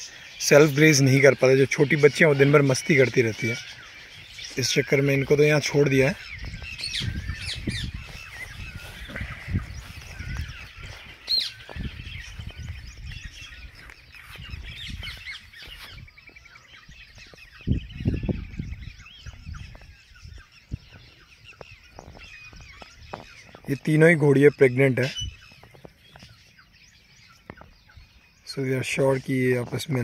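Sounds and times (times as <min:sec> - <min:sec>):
birds chirping chorus: 0:00.0 - 0:30.0.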